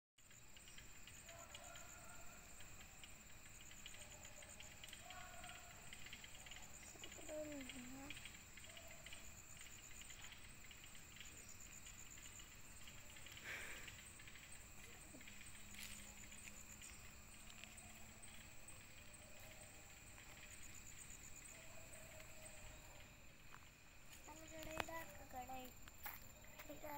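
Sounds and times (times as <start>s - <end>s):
insects chirping faintly: 0.2s - 26.9s.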